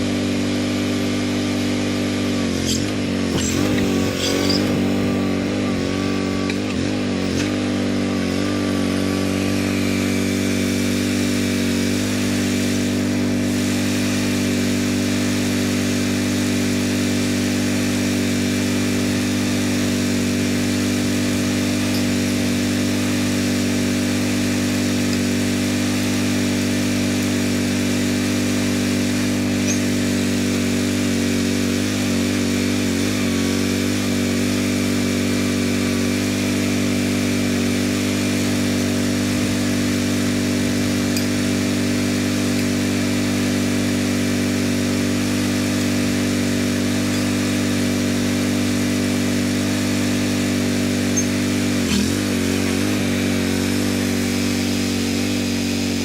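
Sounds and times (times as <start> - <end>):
skid steer engine running: 0.0 - 56.0.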